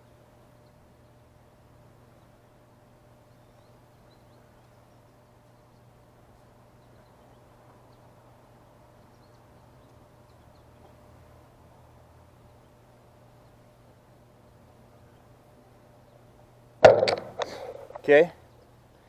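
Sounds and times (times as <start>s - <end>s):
distant birds chirping: 0.0s - 19.0s
low steady hum: 0.0s - 19.0s.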